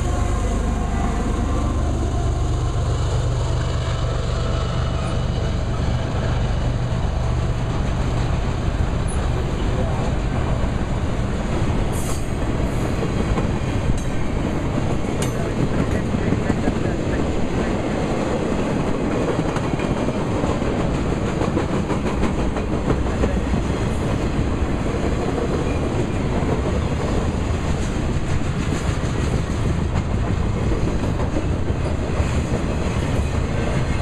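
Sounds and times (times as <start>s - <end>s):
steel wheels rumbling on rail: 0.0s - 34.0s
wheels clacking over rail joints: 4.7s - 34.0s.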